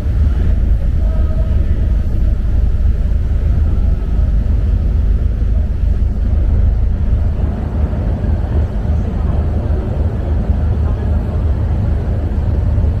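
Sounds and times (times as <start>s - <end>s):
ferry engine and hull rumble: 0.0s - 13.0s.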